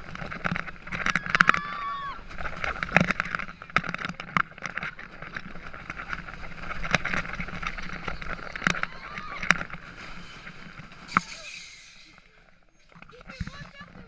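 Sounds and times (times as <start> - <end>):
roller coaster clacks: 0.0 - 12.2, 12.8 - 14.0
roller coaster rattling on track: 0.0 - 12.2, 13.0 - 14.0.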